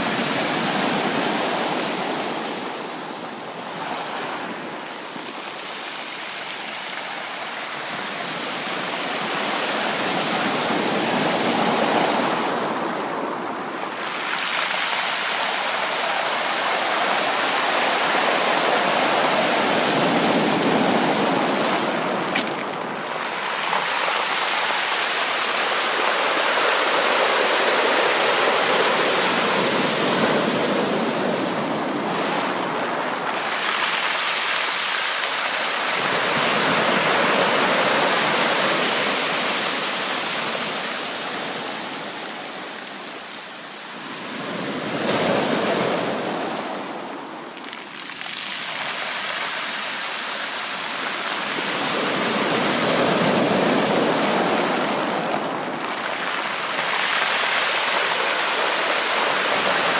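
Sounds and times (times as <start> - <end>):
ocean surf washing onto beach: 0.0 - 59.9.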